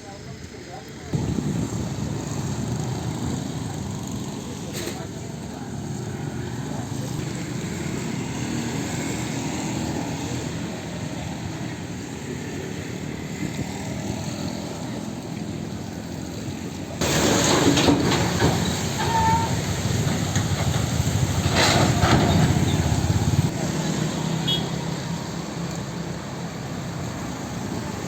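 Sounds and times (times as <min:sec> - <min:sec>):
vehicle traffic rumble: 0:00.0 - 0:28.0.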